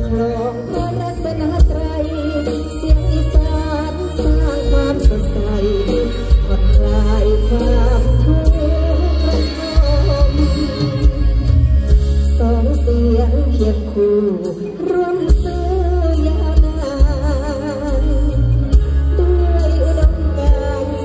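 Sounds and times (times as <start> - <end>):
loud band music with heavy bass: 0.0 - 21.0
wavering melody with vibrato: 0.0 - 21.0.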